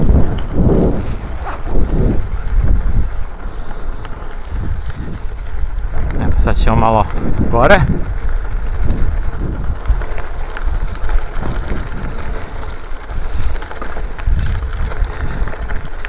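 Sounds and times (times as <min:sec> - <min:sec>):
bicycle tyres crunching gravel: 0:00.0 - 0:16.0
small rattles: 0:00.0 - 0:16.0
wind rumbling on microphone: 0:00.0 - 0:16.0.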